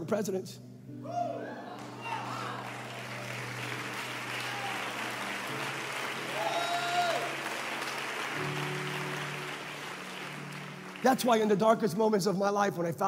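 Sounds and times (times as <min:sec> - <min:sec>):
crowd applauding and cheering: 0:01.1 - 0:12.0.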